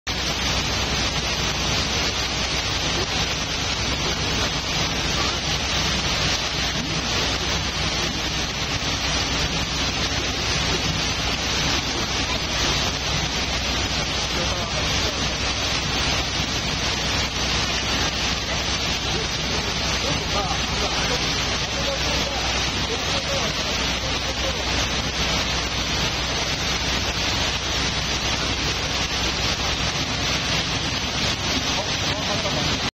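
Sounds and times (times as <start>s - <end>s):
boat engine drone: 0.1s - 32.9s
wind and water rushing: 0.1s - 32.9s.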